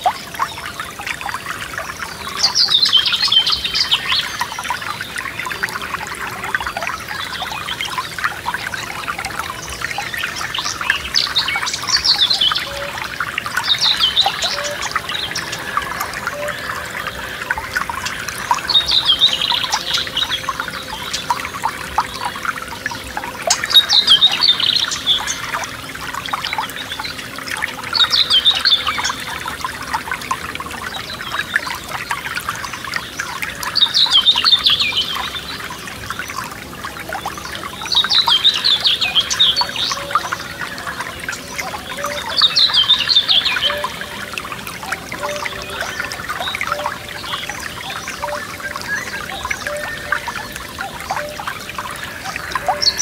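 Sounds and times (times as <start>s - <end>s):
songbird singing: 0.0s - 53.0s
stream babbling: 0.0s - 53.0s.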